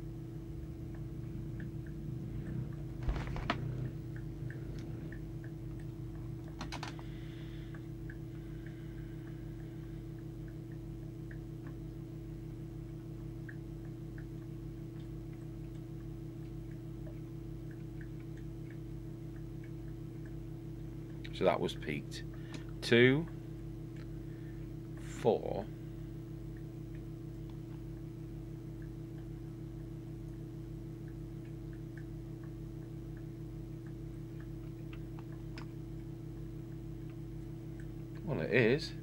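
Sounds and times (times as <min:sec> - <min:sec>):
low electrical hum: 0:00.0 - 0:39.0
faint ticks: 0:00.4 - 0:21.4, 0:25.8 - 0:39.0.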